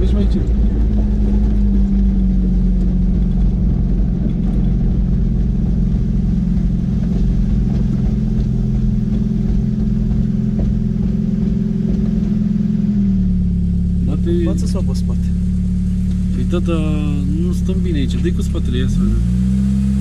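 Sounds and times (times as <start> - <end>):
car engine running at low speed: 0.0 - 20.0.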